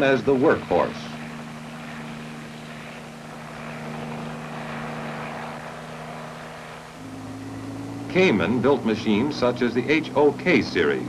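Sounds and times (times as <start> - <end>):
helicopter engine and rotors droning: 0.0 - 11.0.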